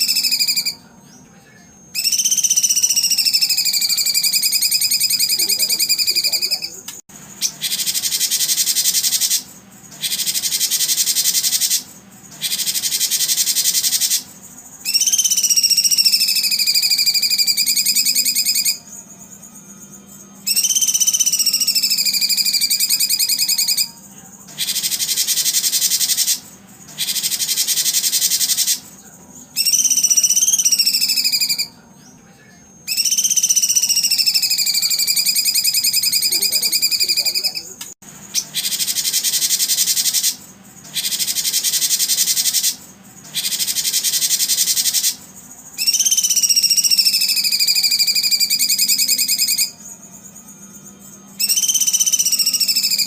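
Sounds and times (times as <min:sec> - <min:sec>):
songbird whistled notes: 0:00.0 - 0:06.8, 0:07.4 - 0:53.0
songbird buzzing trills: 0:00.0 - 0:53.0.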